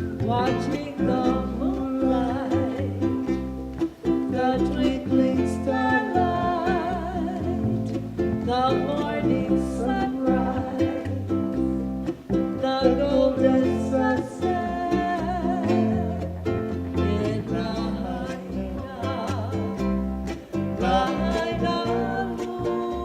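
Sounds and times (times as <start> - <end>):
bass line: 0.0 - 23.0
plucked guitars: 0.0 - 23.0.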